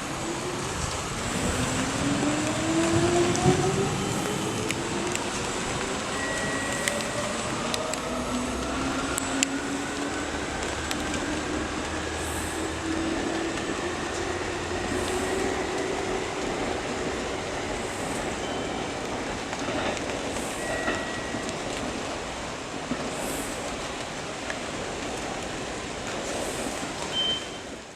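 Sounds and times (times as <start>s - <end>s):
train rolling rumble: 0.0s - 27.9s.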